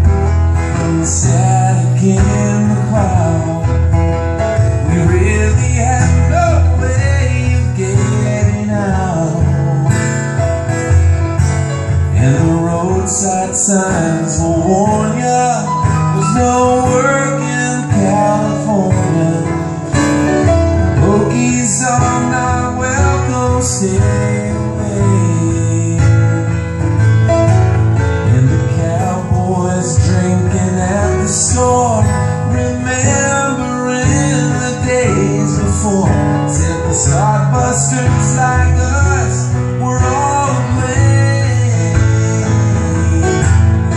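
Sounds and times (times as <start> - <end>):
acoustic guitar playing: 0.0 - 43.9
gliding melodic lead line: 0.0 - 43.9
piano playing: 0.0 - 43.9.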